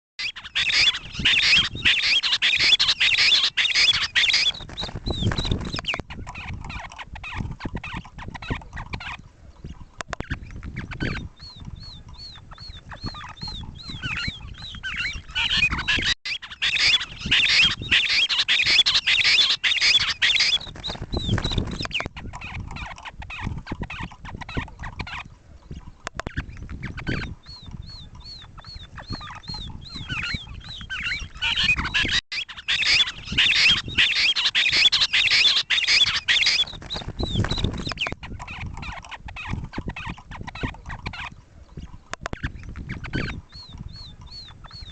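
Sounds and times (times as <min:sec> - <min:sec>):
game bird chattering calls: 0:00.2 - 0:09.2, 0:10.0 - 0:25.3, 0:26.1 - 0:41.4.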